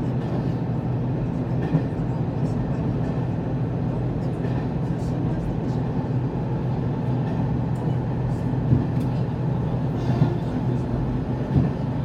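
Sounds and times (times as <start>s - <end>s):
railcar engine drone: 0.0s - 12.0s.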